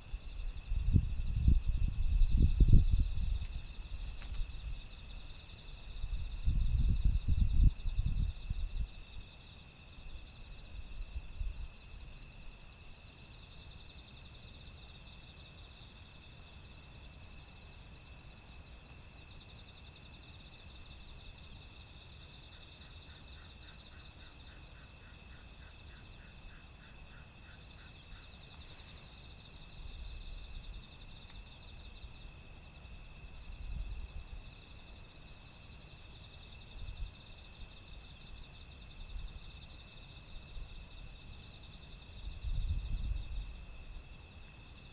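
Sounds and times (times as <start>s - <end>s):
crickets and insects chirring: 0.0s - 44.9s
low pulsing insect trill: 0.0s - 44.9s.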